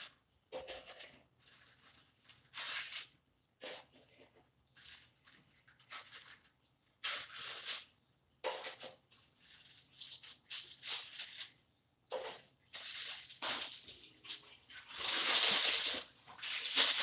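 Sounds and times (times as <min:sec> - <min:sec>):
taco shells scraping on metal sheet: 0:00.0 - 0:05.1, 0:07.0 - 0:11.6, 0:12.2 - 0:17.0.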